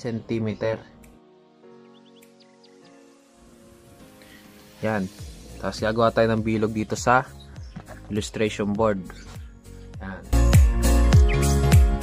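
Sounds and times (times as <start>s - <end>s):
music with held chords: 0.0s - 12.0s.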